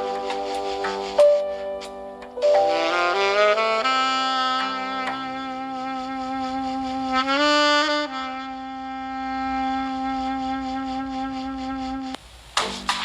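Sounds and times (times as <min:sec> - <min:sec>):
wind instrument holding long notes: 0:00.0 - 0:12.2.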